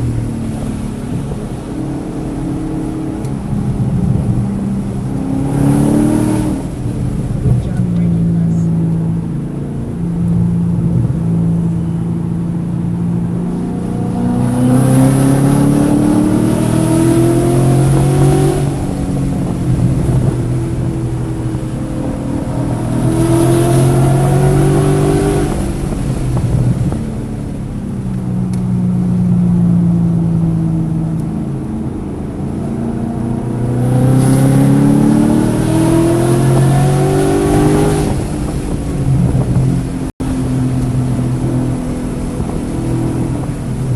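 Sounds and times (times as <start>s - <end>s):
car engine accelerating and misfiring: 0.0s - 43.9s.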